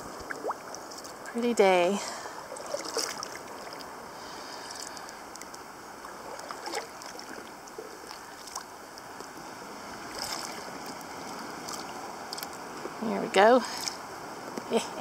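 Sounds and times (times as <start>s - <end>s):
paddle splashes and drips: 0.0s - 1.3s, 2.1s - 13.0s
hiss of moving water: 2.0s - 15.0s.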